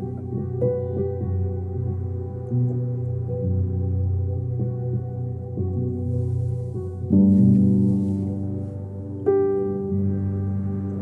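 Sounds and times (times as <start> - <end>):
ambient music low tones: 0.0 - 11.0.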